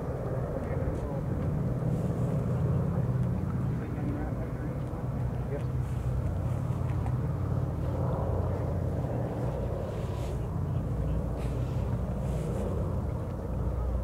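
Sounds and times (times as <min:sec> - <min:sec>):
radial aircraft engines droning: 0:00.0 - 0:14.0.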